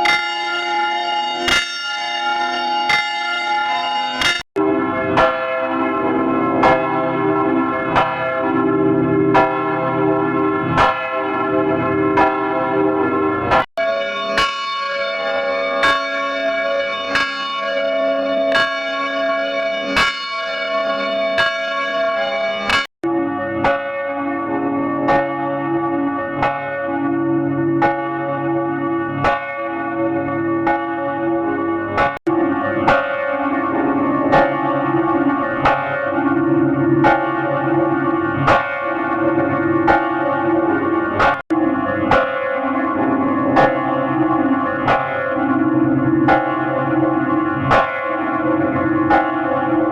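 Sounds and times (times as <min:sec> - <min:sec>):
church bells ringing: 0:00.0 - 0:49.9.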